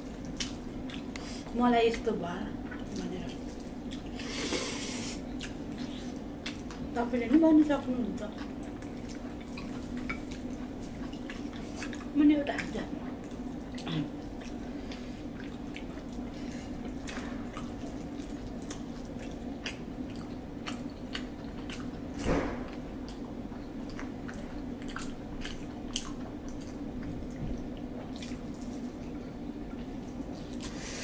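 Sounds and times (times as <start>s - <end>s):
steady low hum: 0.0s - 31.0s
chewing: 0.1s - 2.0s, 2.6s - 7.4s, 8.0s - 30.8s.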